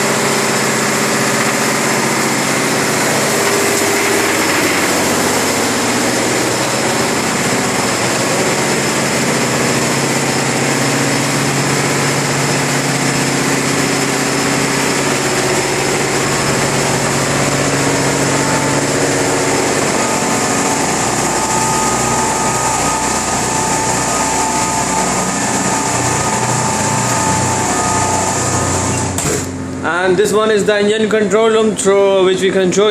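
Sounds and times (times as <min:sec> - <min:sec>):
steady tone: 0:00.0 - 0:30.4
engine room machinery din: 0:00.0 - 0:32.9
high whine: 0:00.0 - 0:32.9.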